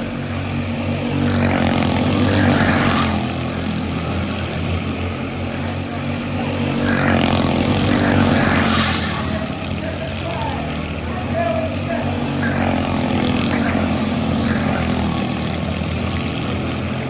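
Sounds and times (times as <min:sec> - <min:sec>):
small race car engines: 0:00.0 - 0:17.0.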